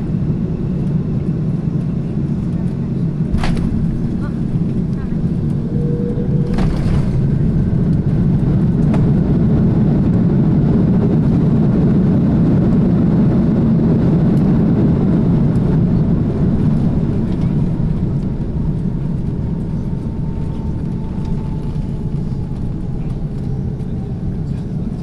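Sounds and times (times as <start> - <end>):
airplane engines and wheels rumbling: 0.0 - 25.0.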